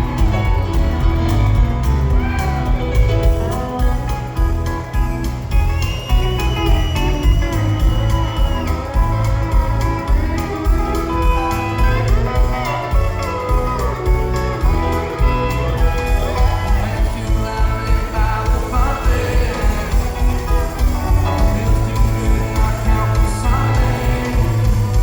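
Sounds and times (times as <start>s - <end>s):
country band instrumental: 0.0s - 25.0s.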